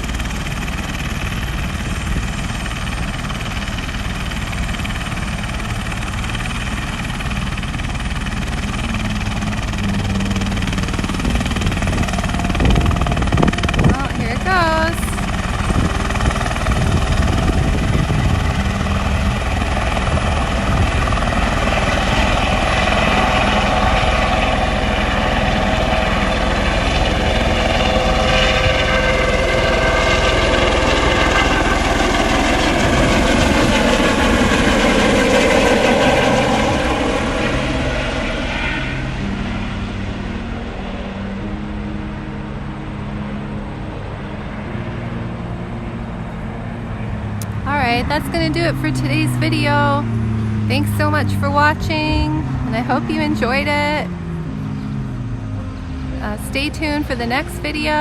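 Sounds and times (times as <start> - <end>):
helicopter engine and rotor whine: 0.0 - 58.0.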